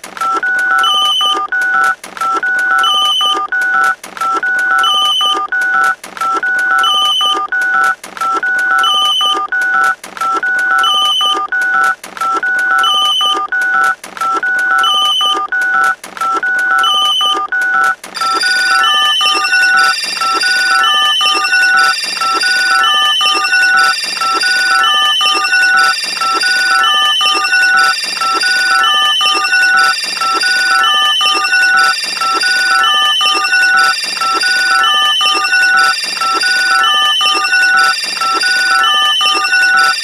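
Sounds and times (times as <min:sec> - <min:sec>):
electronic telephone-like beeps: 0:00.2 - 0:40.0.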